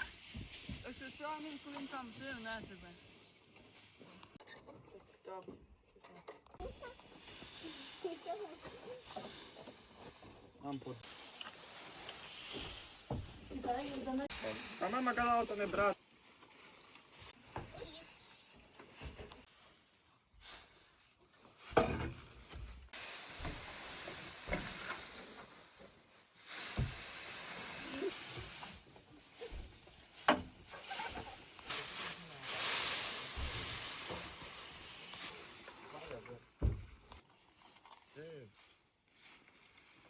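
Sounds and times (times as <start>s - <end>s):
dry hay rustling: 0.0s - 4.4s, 6.6s - 40.0s.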